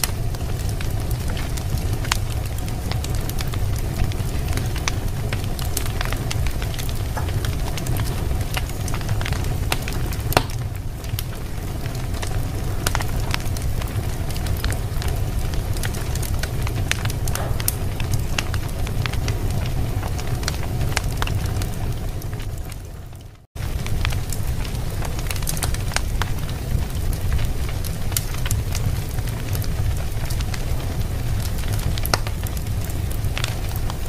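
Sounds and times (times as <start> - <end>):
low rumble: 0.0 - 27.8
wood fire crackling and popping: 0.0 - 34.0.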